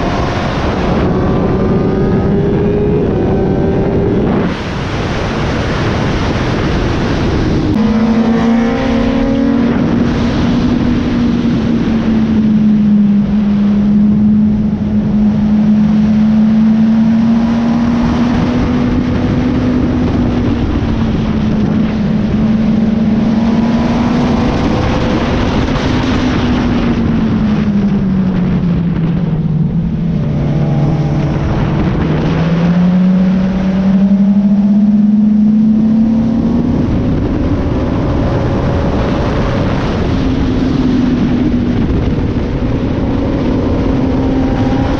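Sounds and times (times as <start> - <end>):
motorcycle engine at high revs: 0.0 - 44.9
wind rush: 0.0 - 44.9.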